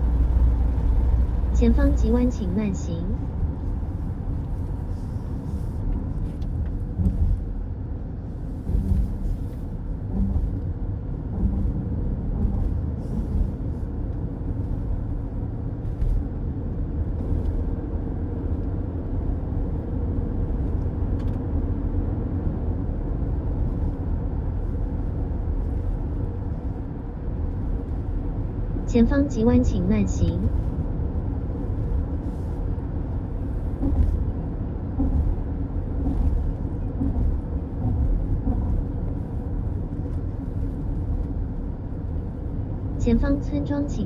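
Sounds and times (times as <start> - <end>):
car tyres and engine rumble: 0.0 - 29.2, 30.2 - 43.9.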